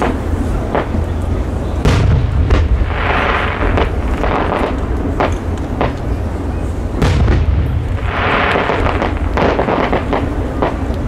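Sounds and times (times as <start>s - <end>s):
firework shells bursting: 1.8s - 11.0s.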